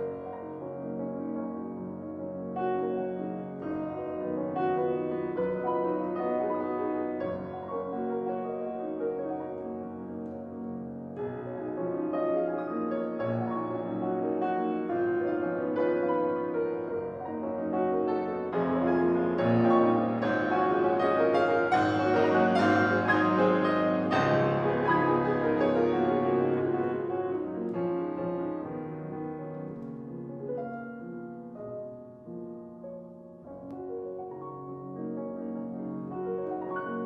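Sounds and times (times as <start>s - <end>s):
classical piano piece: 0.0s - 37.0s.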